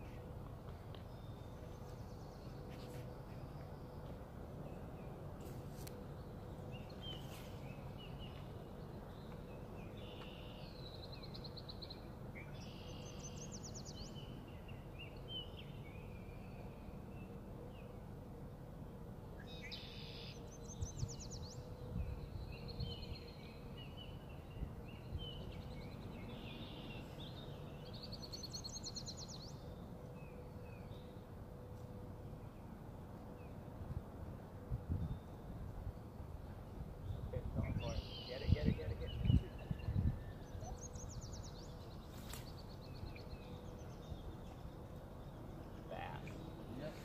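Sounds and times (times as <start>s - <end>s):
faint steady hum: 0.0s - 47.0s
songbird singing: 0.0s - 47.0s.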